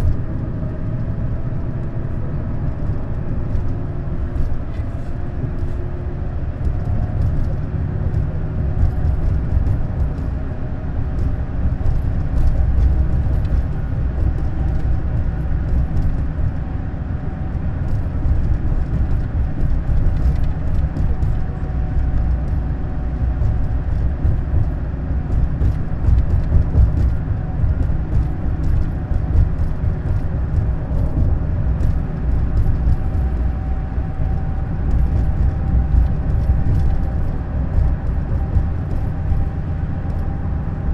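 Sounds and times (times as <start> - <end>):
coach engine and road rumble: 0.0 - 40.9.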